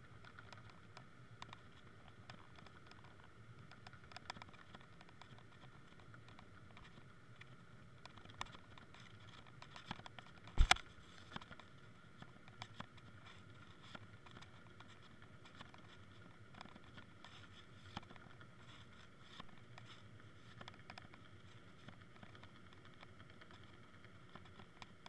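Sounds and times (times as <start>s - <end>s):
small underwater clicks: 0.0s - 25.0s.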